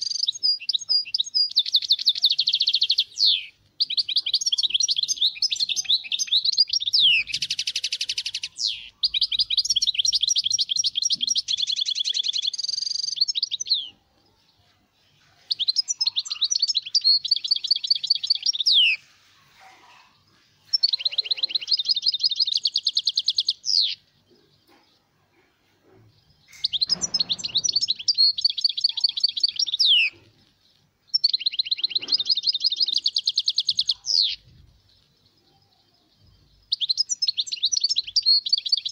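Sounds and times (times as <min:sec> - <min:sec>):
finch twittering trills: 0:00.0 - 0:14.0, 0:15.5 - 0:19.0, 0:20.7 - 0:25.1, 0:25.9 - 0:30.5, 0:31.1 - 0:38.9.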